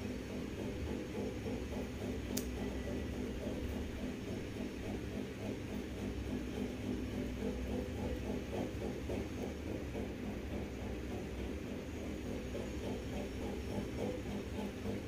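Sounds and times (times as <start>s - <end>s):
low background hum and rumble: 0.0s - 15.0s.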